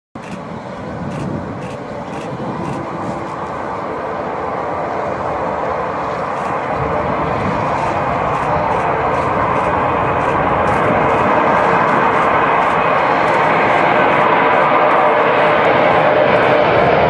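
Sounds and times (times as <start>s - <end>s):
jet aircraft taking off: 0.2s - 17.0s.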